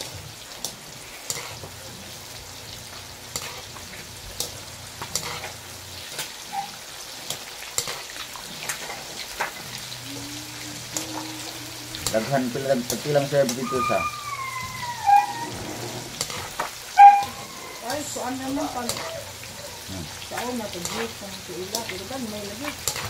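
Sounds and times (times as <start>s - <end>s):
deep-frying sizzle with pops: 0.0s - 23.0s.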